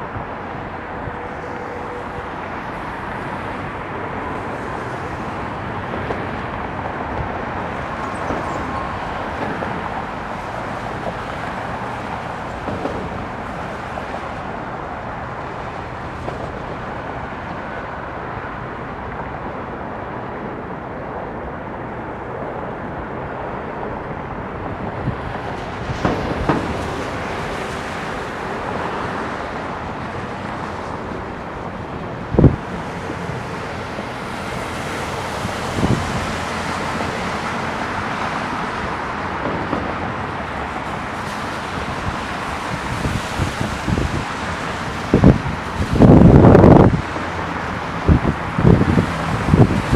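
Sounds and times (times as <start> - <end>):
jet engines roaring: 0.0 - 49.9
traffic-like background noise: 0.0 - 49.9.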